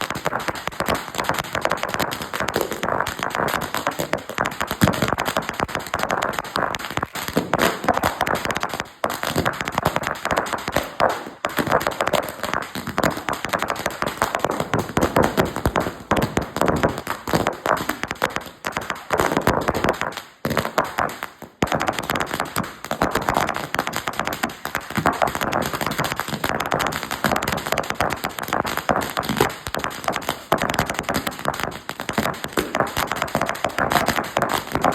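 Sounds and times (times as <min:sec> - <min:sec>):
firecracker string crackling: 0:00.0 - 0:34.9.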